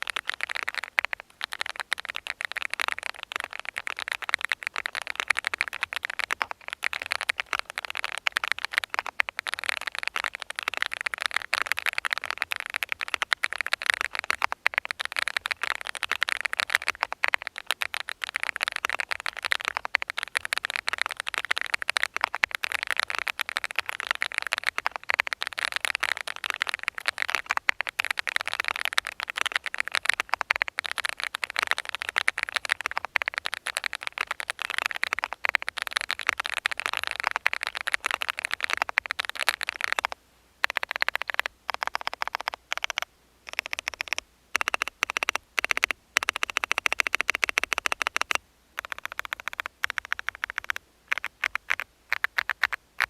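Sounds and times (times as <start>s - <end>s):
fast typing on mechanical keyboard: 0.0s - 52.8s.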